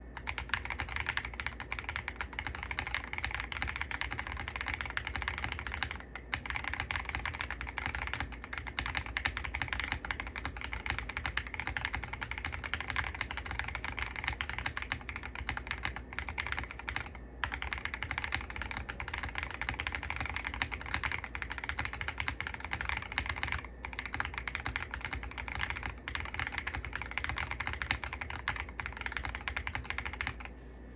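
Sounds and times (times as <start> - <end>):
mechanical keyboard typing: 0.2 - 30.5.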